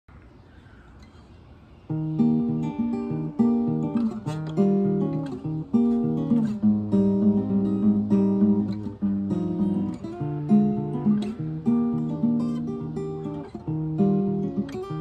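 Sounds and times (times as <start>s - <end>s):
acoustic guitar chords: 1.9s - 15.0s.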